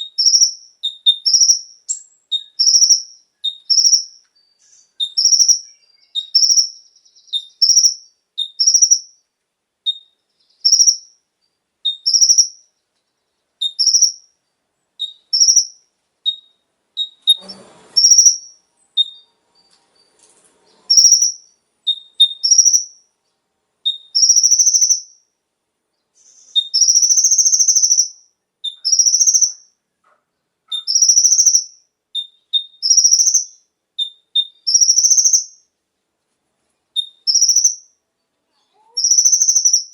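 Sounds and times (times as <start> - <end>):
sunbird singing: 0.0 - 17.4, 20.8 - 23.1, 23.8 - 25.3, 26.0 - 29.8, 30.7 - 35.7, 36.9 - 38.0, 38.7 - 39.9.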